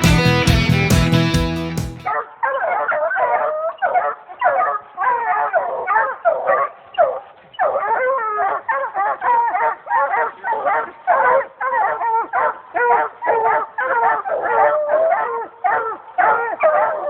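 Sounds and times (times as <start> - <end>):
hounds baying and barking: 2.0 - 17.0.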